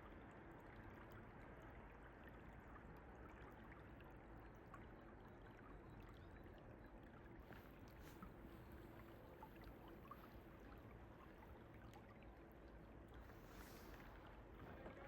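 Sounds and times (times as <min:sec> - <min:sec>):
water splashes and drips: 0:00.0 - 0:15.0
flowing stream: 0:00.2 - 0:15.0.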